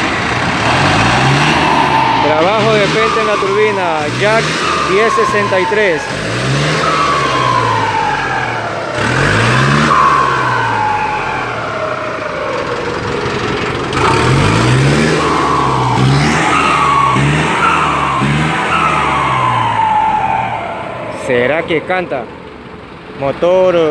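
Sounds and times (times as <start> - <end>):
diesel engine revving: 0.0 - 23.9
turbo whistling: 0.7 - 12.6, 13.9 - 22.4.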